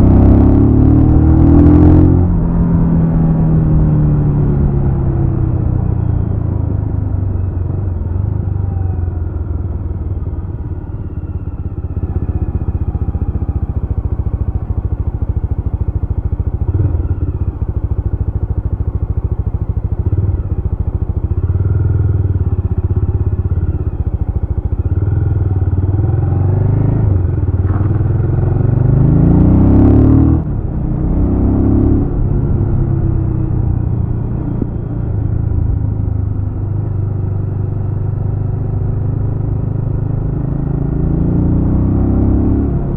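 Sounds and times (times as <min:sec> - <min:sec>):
motorcycle engine revving: 0:00.0 - 0:09.2, 0:10.5 - 0:42.9.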